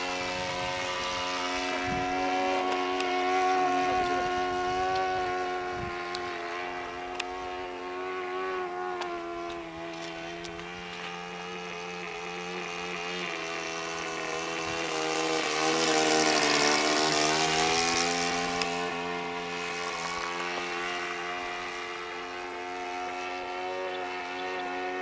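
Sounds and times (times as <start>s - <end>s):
model airplane engine flying past: 0.0s - 25.0s.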